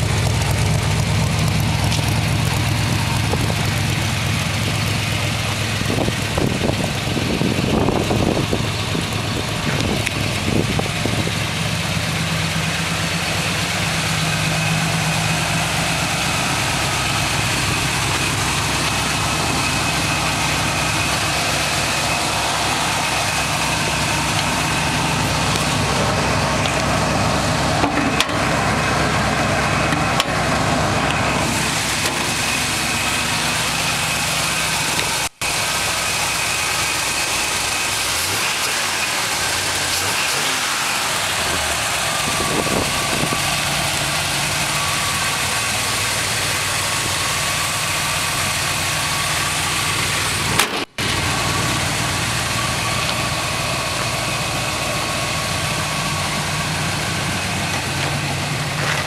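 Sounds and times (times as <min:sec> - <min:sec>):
pickup engine idling: 0:00.0 - 0:59.0.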